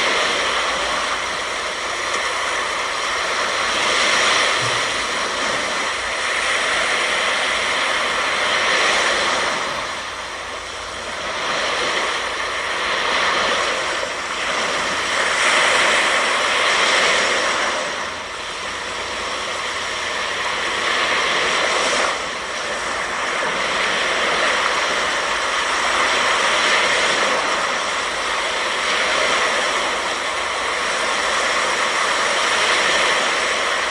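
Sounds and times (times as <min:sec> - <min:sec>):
ocean surf breaking: 0:00.0 - 0:33.9.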